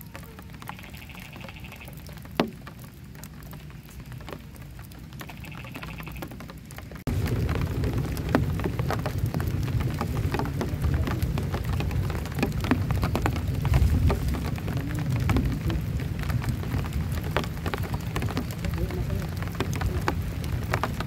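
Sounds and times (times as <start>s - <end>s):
deep rain rumble: 0.0s - 21.0s
rain drops pattering on shelter: 0.0s - 21.0s.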